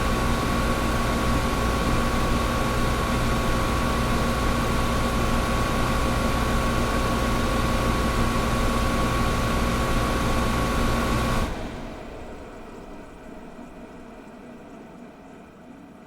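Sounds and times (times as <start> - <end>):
air conditioner running: 0.0 - 16.0.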